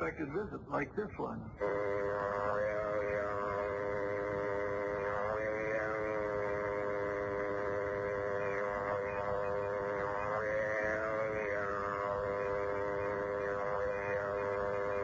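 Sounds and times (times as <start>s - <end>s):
electronic buzzing drone: 1.5s - 15.0s.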